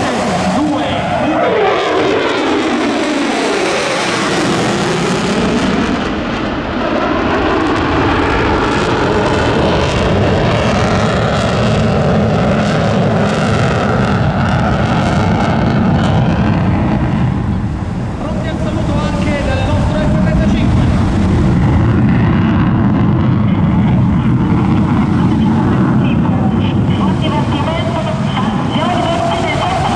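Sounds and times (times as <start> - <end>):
jet roar: 0.0 - 29.9.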